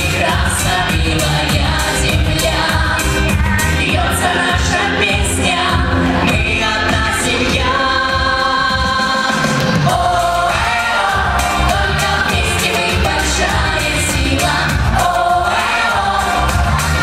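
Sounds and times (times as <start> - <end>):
group singing: 0.0 - 17.0
pop band playing: 0.0 - 17.0.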